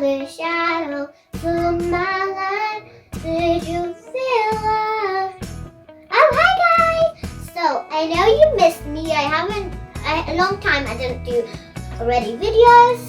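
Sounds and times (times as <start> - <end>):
girl singing: 0.0 - 5.4, 6.1 - 13.0
faint backing track: 0.0 - 13.0.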